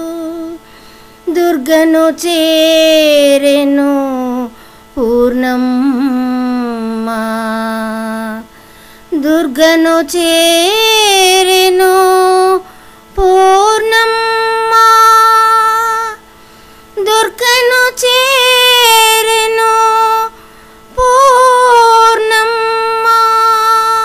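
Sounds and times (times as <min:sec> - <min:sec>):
woman singing: 0:00.0 - 0:00.6, 0:01.3 - 0:08.5, 0:09.1 - 0:16.2, 0:17.0 - 0:24.0
faint steady drone: 0:00.0 - 0:24.0.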